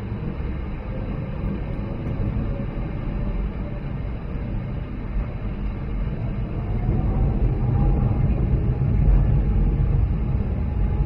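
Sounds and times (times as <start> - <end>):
jet engines low rumble with whine: 0.0 - 11.0.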